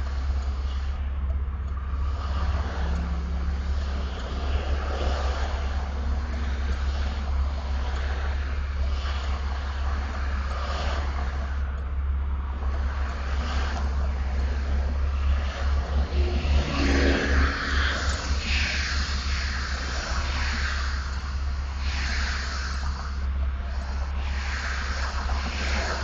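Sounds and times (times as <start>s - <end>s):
car engine rough idling: 0.0s - 26.0s.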